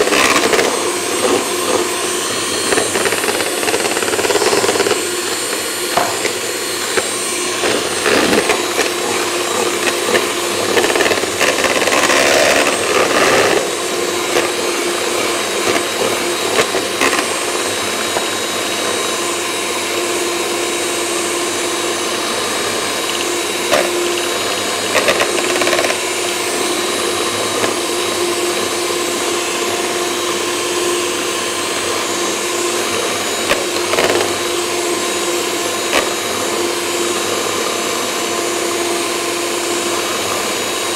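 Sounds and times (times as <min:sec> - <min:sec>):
electric hand mixer running: 0:00.0 - 0:40.9.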